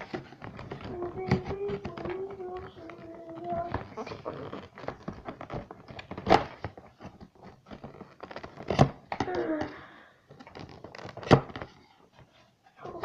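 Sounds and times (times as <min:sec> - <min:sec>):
toy packaging clicks and rustles: 0:00.0 - 0:13.0.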